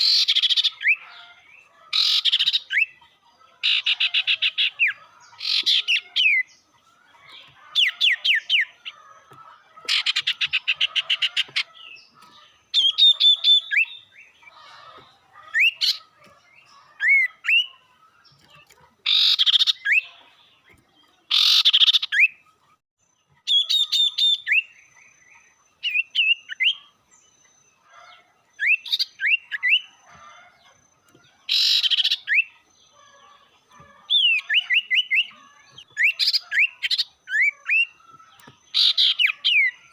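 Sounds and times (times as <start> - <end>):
songbird calling: 0.0 - 39.9.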